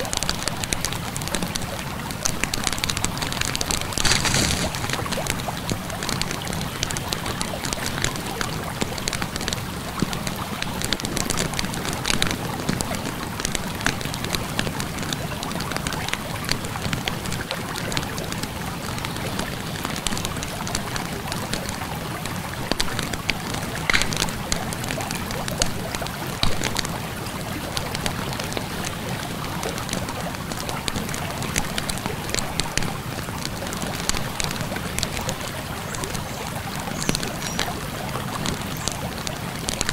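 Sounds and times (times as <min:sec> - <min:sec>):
flowing river water: 0:00.0 - 0:39.9
wood fire crackling and popping: 0:00.0 - 0:39.9.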